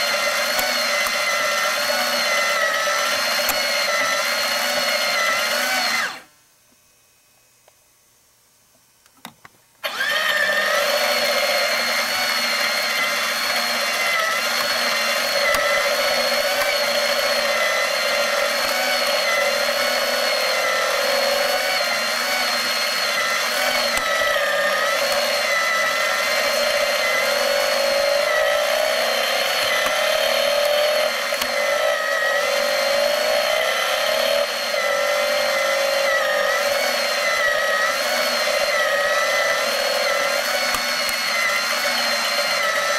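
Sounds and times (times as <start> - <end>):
plastic gears whirring: 0.0 - 6.3, 9.8 - 42.9.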